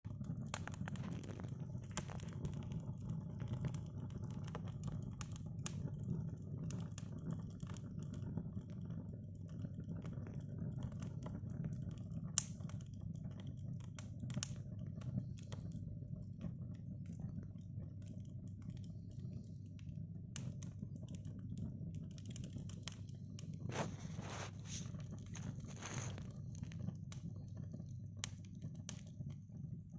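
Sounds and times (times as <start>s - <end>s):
wood fire crackling: 0.1s - 29.9s.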